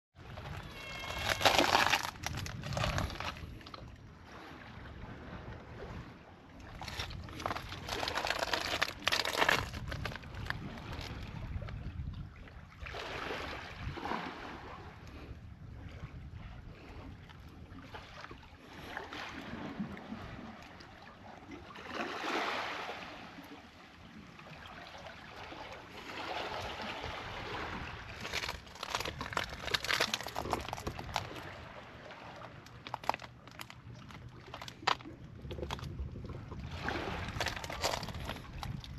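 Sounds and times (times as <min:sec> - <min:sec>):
wind: 0:00.1 - 0:38.9
waves: 0:00.2 - 0:38.9.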